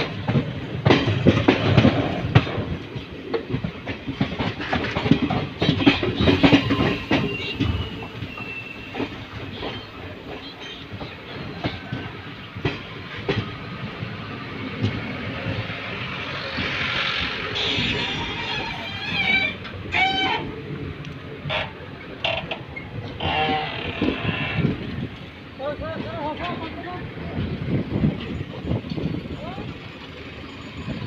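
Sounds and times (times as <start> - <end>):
train running rumble: 0.0 - 31.0
train wheels clattering over rail joints: 0.0 - 31.0.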